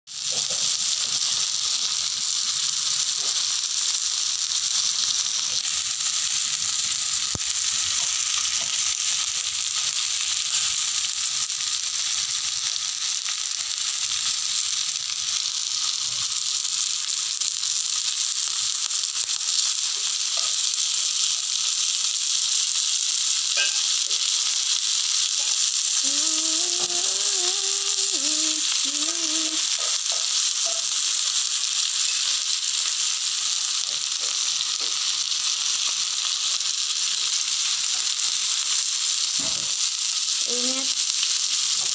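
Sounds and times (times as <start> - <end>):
chicken sizzling on a grill pan: 0.1 - 41.9.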